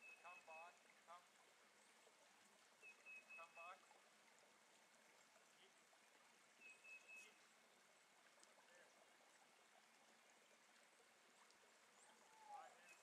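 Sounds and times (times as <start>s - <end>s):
small creek rushing: 0.0s - 13.0s.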